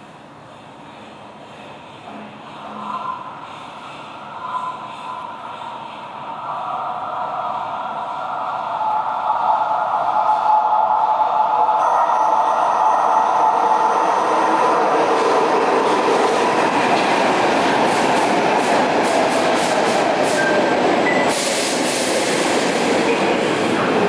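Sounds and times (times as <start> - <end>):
metro train rushing: 0.0 - 24.0.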